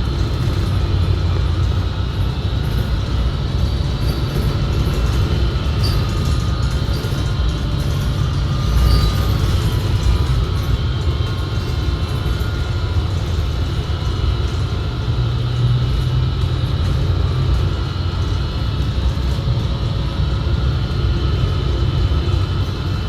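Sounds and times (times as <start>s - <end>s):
bus low rumble: 0.0s - 23.0s
transmission high whine: 0.0s - 23.0s.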